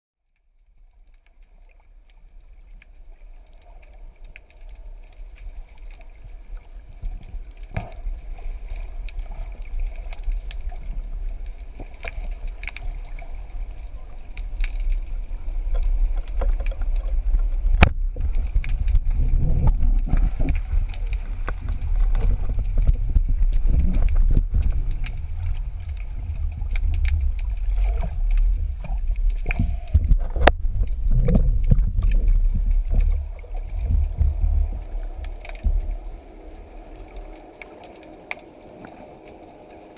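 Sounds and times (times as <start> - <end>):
muffled underwater rumble: 0.3 - 39.9
faint steady whine: 0.8 - 39.9.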